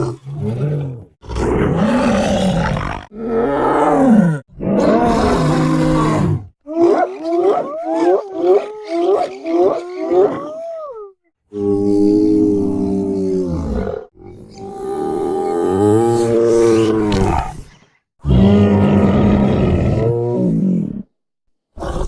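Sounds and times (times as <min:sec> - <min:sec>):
dinosaur roars: 0:00.0 - 0:17.6, 0:18.2 - 0:21.1.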